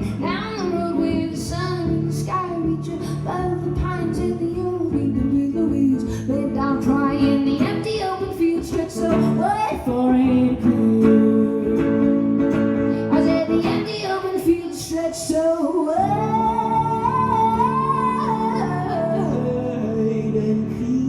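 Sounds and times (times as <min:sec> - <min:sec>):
guitar: 0:00.0 - 0:21.0
woman singing: 0:00.0 - 0:21.0.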